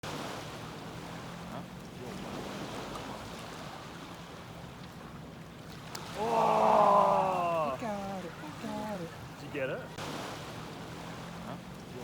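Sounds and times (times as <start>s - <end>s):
waves: 0.0s - 12.0s
wind: 0.0s - 12.0s.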